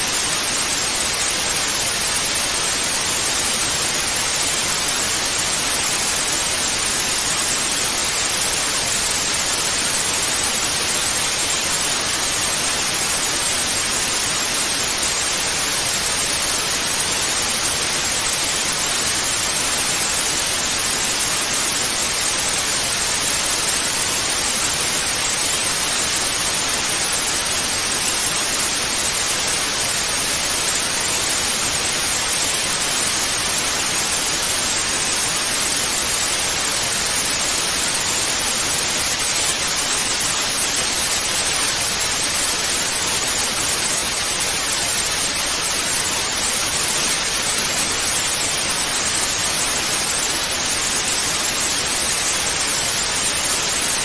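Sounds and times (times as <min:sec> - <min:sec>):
tv static hiss: 0:00.0 - 0:54.0.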